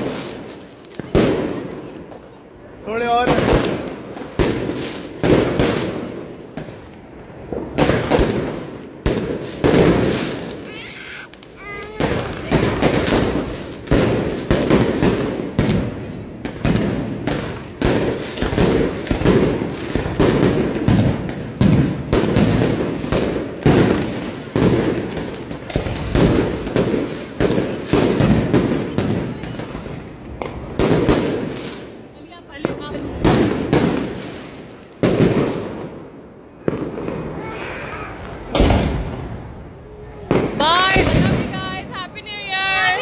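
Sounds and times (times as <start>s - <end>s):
fireworks bangs and bursts: 0.0s - 43.0s.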